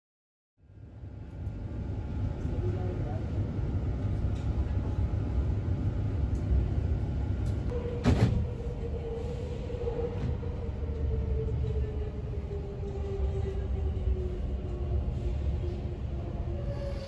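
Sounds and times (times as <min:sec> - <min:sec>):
train rumbling: 0:00.7 - 0:17.0.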